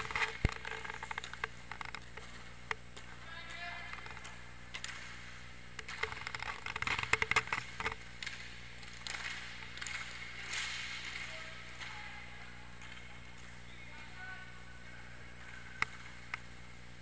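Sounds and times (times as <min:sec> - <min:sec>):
skates on rink floor: 0:00.0 - 0:14.4, 0:15.4 - 0:16.4
hockey sticks and puck clattering: 0:00.0 - 0:16.5.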